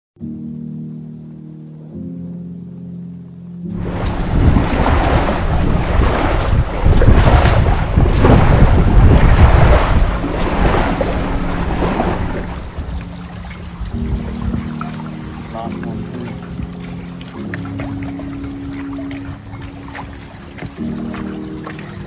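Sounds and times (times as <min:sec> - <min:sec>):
rushing water: 0:03.7 - 0:22.0
wind buffeting microphone: 0:03.7 - 0:22.0.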